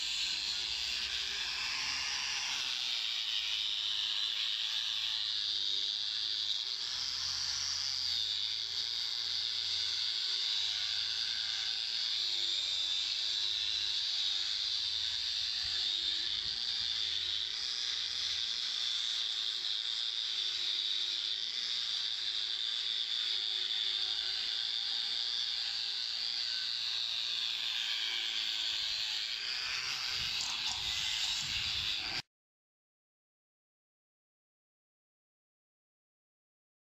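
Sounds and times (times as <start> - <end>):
wire brush grinder on metal: 0.0 - 32.3.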